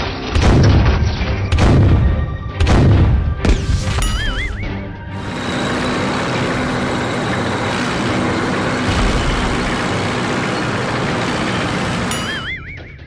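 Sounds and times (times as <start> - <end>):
heavy tank engine running: 0.0 - 13.0.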